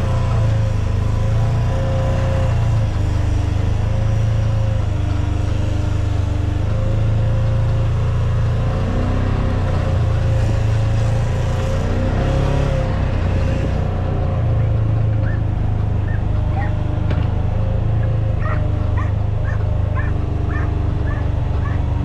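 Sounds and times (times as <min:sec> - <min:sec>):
utility vehicle engine droning: 0:00.0 - 0:22.0.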